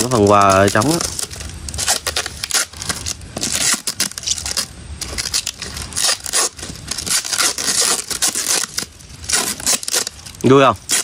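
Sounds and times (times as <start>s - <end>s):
tape and plastic being torn: 0.0s - 11.0s.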